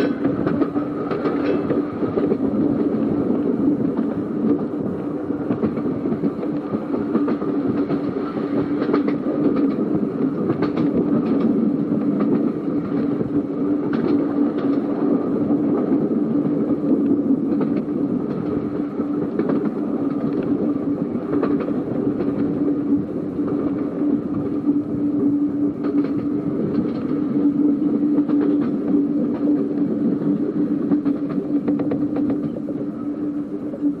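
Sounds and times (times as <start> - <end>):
electric tram humming: 0.0 - 34.0
wheels clicking on rails: 0.0 - 34.0.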